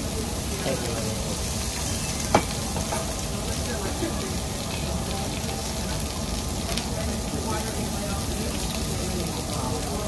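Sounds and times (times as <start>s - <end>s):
meat sizzling on grill: 0.0s - 10.0s.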